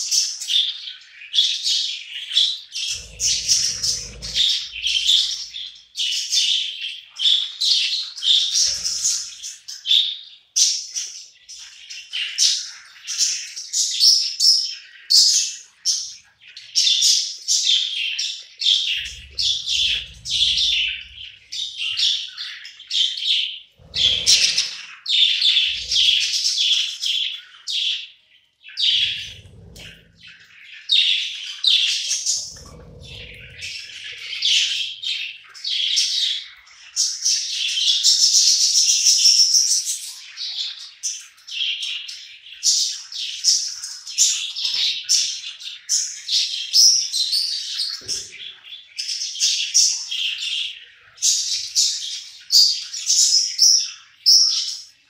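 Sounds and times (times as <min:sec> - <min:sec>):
budgerigars chattering: 0:00.0 - 0:28.0, 0:28.8 - 0:54.8.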